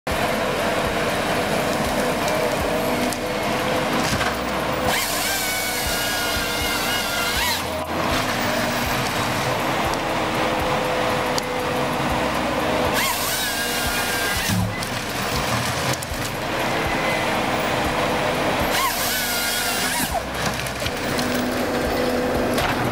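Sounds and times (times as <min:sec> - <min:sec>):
harvester engine and hydraulics: 0:00.1 - 0:22.9
chain saw cutting tree trunk: 0:01.3 - 0:10.6, 0:11.3 - 0:22.9.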